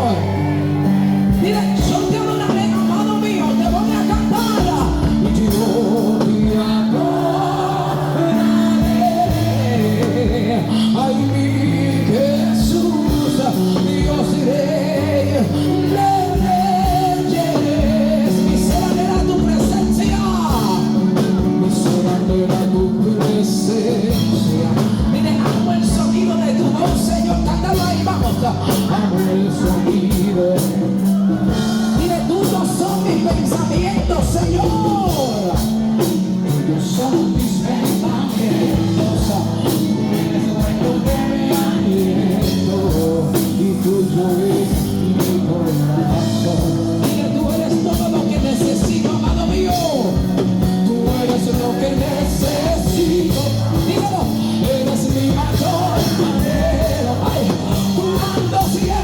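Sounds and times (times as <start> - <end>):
live band playing worship song: 0.0 - 59.0
person singing: 0.0 - 59.0
steady drum beat: 0.0 - 59.0.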